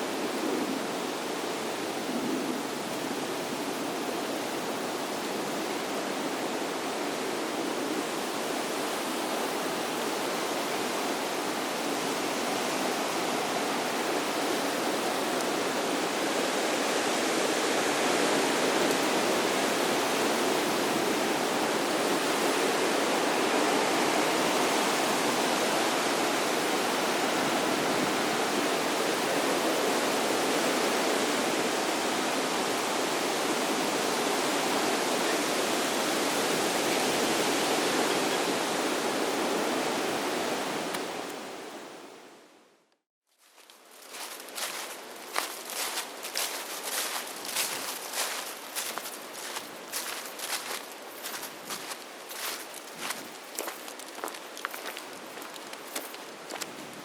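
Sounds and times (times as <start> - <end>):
water rushing: 0.0 - 42.0, 44.1 - 57.0.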